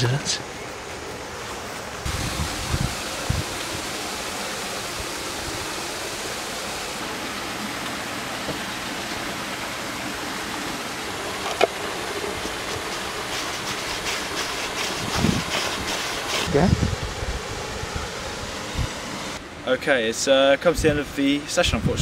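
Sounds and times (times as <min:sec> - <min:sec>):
outdoor rushing ambience: 0:00.0 - 0:21.5.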